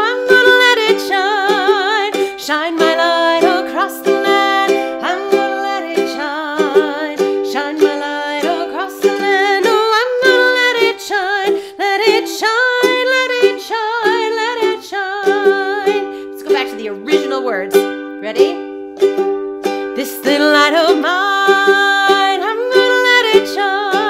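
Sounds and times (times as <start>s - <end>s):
woman singing with vibrato: 0.0s - 18.8s, 19.8s - 24.0s
ukulele strumming: 0.0s - 24.0s.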